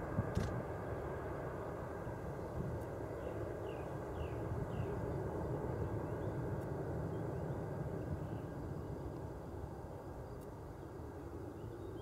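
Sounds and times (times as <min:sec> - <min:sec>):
jet engines at take-off power: 0:00.0 - 0:12.0.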